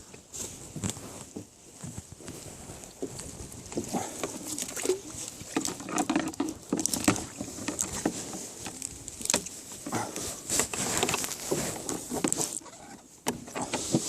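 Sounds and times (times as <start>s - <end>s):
rustling: 0.0s - 14.0s.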